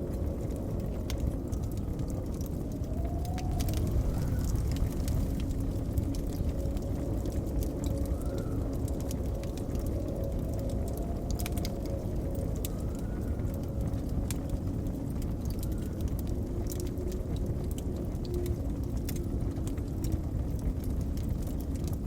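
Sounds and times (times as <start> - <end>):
blizzard wind whistling: 0.0 - 22.0
wood fire crackling and popping: 0.0 - 22.0.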